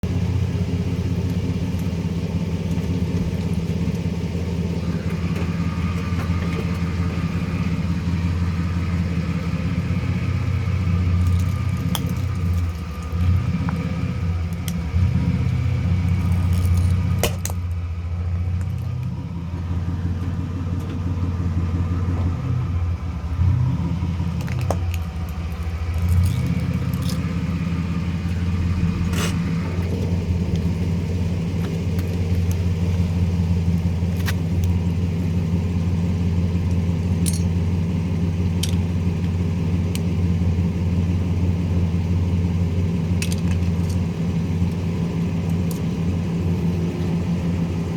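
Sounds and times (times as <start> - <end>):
vehicle engine humming: 0.0 - 47.9.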